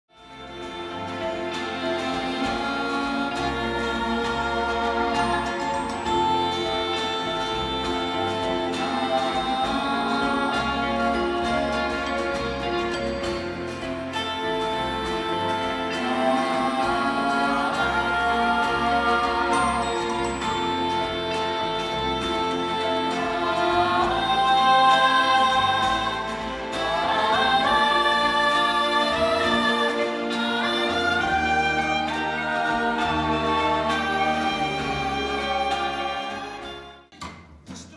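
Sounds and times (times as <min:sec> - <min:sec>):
orchestra playing: 0:00.1 - 0:37.2
pulsing bass: 0:00.2 - 0:37.1
voices singing: 0:00.2 - 0:37.1.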